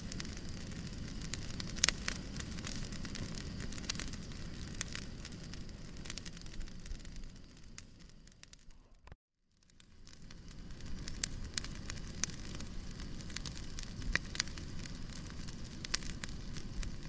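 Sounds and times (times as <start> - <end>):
fire pops: 0.0 - 17.0
wood fire crackling: 0.0 - 17.0.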